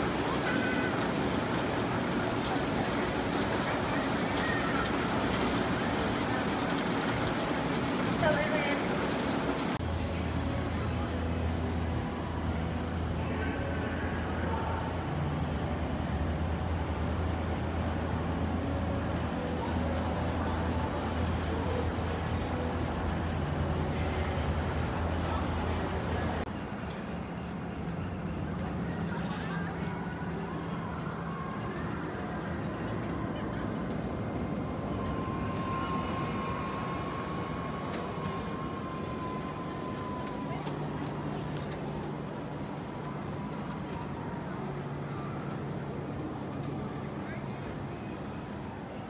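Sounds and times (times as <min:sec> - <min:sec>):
distant machinery rumble: 0:00.0 - 0:26.5, 0:32.4 - 0:46.6
steady high whine: 0:00.0 - 0:28.8, 0:30.0 - 0:49.0
constant hum: 0:00.0 - 0:49.0.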